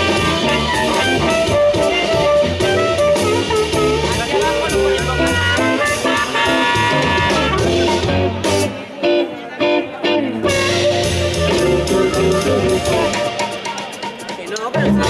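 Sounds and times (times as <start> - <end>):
harmonica chords: 0.0 - 9.3, 10.1 - 14.0
blues band playing: 0.0 - 15.0.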